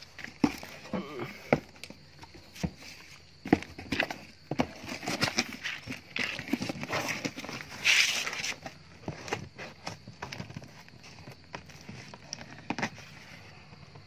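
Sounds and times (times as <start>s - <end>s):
scraping rustle: 2.2s - 13.9s.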